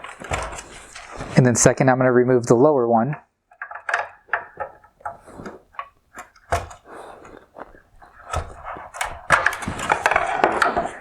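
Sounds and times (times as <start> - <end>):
plastic scraping and rattling: 0.0 - 1.7, 3.5 - 11.0.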